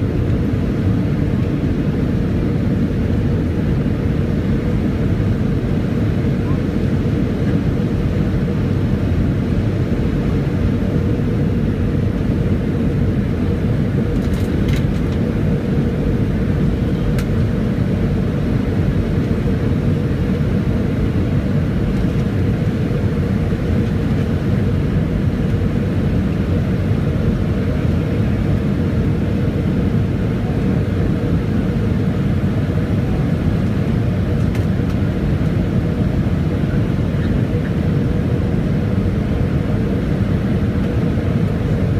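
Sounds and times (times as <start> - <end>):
airliner cabin rumble: 0.0 - 41.9
steady hum: 0.0 - 41.9.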